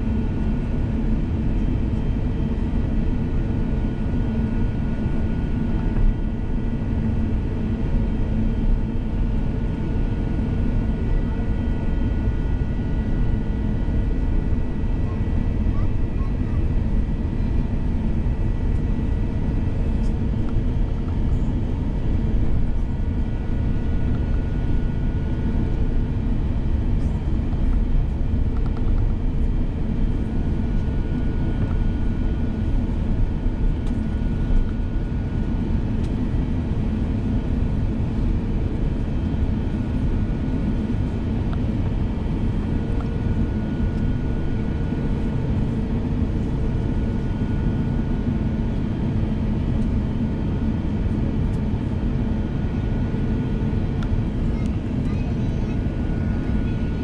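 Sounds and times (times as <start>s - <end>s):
aircraft cabin rumble: 0.0s - 57.0s
faint steady whining tones: 0.0s - 57.0s.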